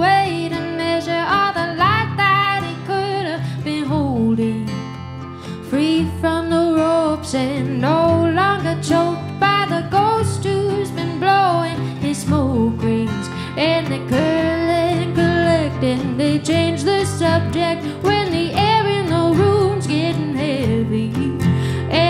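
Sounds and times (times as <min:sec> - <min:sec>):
acoustic guitars: 0:00.0 - 0:22.0
woman singing folk song: 0:00.0 - 0:22.0.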